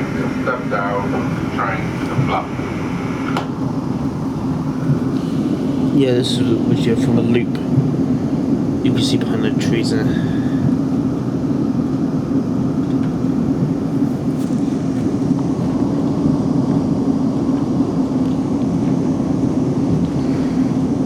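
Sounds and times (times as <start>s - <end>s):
train hum: 0.0s - 21.0s
train wheels rumbling on track: 3.4s - 21.0s.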